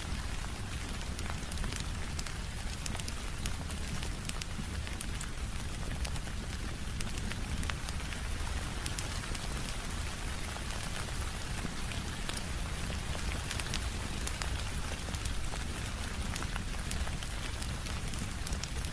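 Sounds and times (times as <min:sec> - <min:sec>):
steady rain falling: 0:00.0 - 0:18.9
wood fire crackling: 0:00.1 - 0:18.9.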